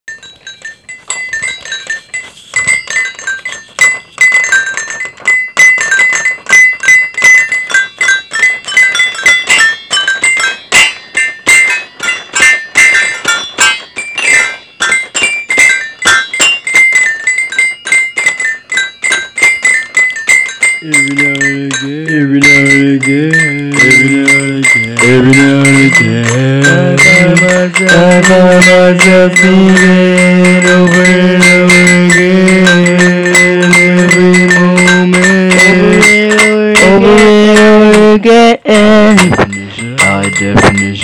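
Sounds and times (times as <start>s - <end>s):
fast melody of high struck notes: 0.1s - 41.0s.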